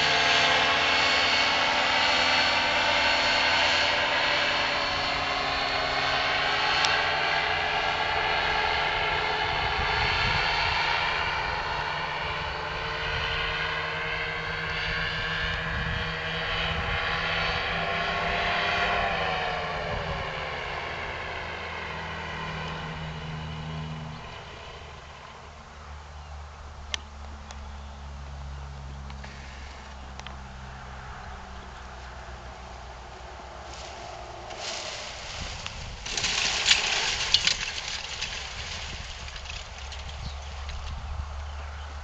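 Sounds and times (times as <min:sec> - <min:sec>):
propeller engine droning overhead: 0:00.0 - 0:42.0.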